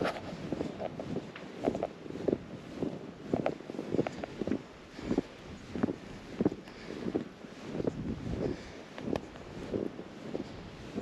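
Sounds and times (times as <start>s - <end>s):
footsteps crunching through snow: 0.0s - 11.0s
wind buffeting microphone: 0.0s - 11.0s.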